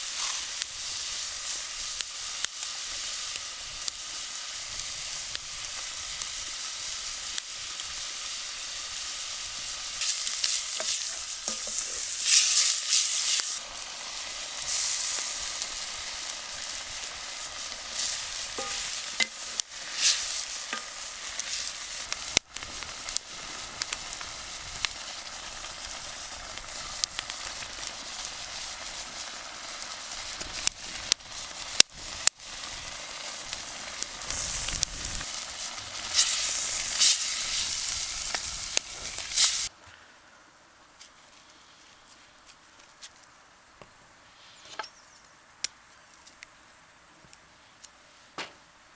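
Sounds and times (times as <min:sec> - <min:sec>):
food sizzling in a pan: 0:00.0 - 0:39.7.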